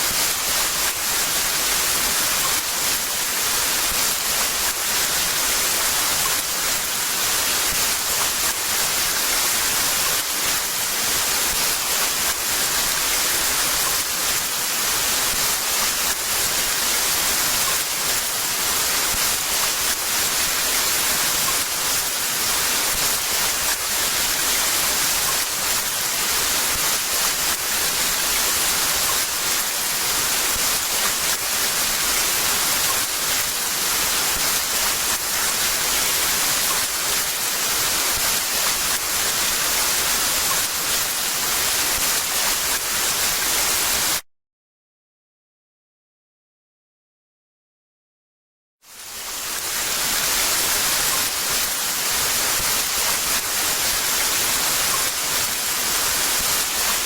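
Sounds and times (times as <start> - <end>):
heavy rain falling: 0.0 - 44.2, 49.0 - 57.0.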